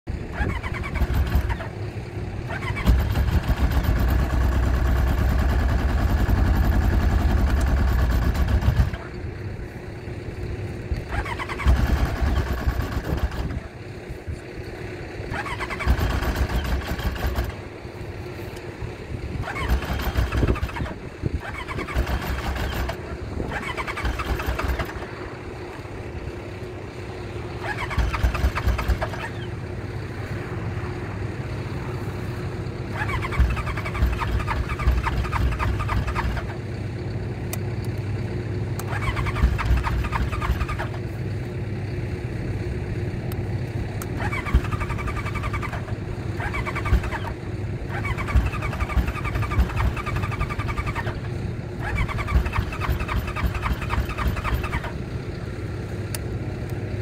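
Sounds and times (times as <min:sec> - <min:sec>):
snowmobile engine revving and idling: 0:00.1 - 0:43.2, 0:44.0 - 0:55.9.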